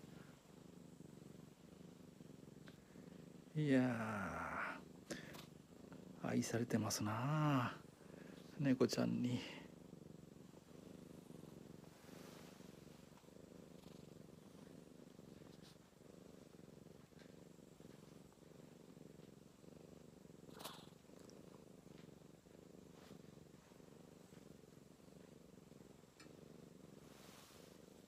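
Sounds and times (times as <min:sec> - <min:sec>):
cats purring softly: 0:00.0 - 0:28.0.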